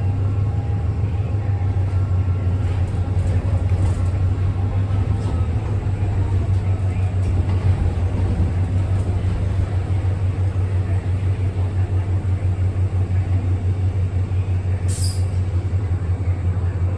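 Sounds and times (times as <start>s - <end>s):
bus low wavering hum: 0.0s - 16.9s.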